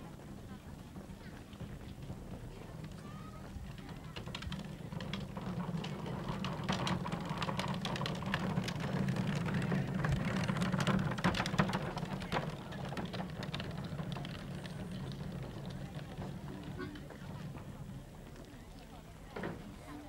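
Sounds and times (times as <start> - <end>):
wheelbarrow of crates rattling: 1.0 - 18.5.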